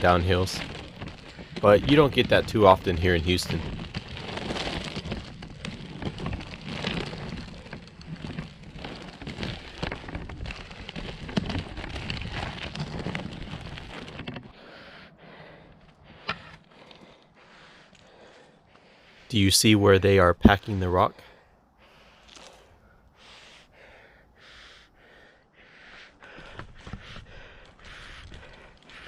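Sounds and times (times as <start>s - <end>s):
skate wheels rolling on gravel: 0.0s - 21.1s, 21.8s - 25.3s, 26.2s - 29.0s.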